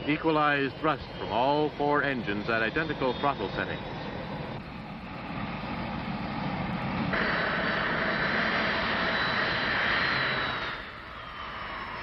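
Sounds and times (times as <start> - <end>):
jet engines running: 0.0 - 12.0
thin engine whine: 0.0 - 12.0.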